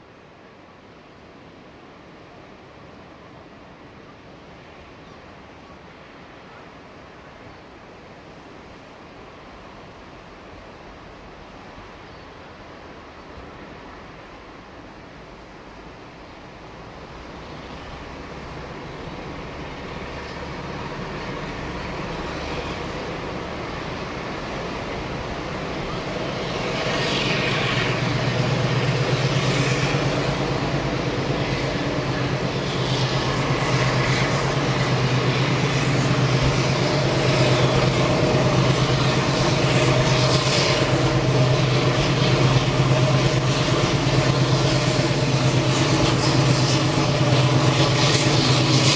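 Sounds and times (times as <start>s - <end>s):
diesel locomotive engine: 0.0s - 48.9s.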